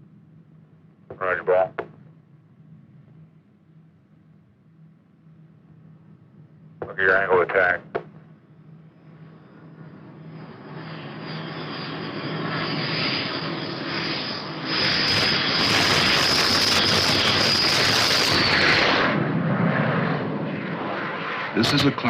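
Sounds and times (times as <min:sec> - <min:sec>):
high turbine whine: 0:00.0 - 0:22.0
jet aircraft engine noise: 0:00.0 - 0:22.0.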